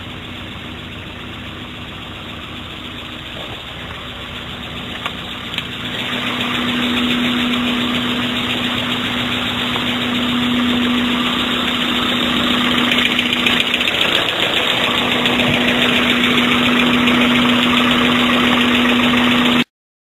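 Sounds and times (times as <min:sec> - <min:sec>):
car engine idling: 0:00.0 - 0:19.7.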